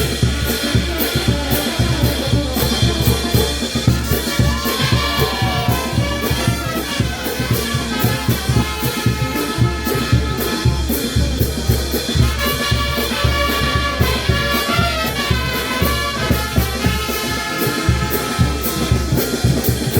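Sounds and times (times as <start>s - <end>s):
bass drum beat: 0.0s - 19.9s
trumpets and trombones: 0.0s - 19.9s.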